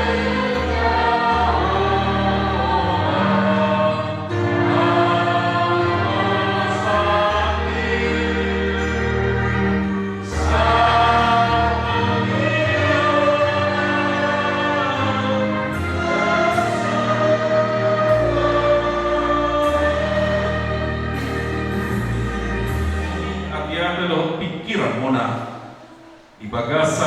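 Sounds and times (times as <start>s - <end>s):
choir singing a hymn: 0.0s - 27.0s
keyboard chords: 0.0s - 27.0s.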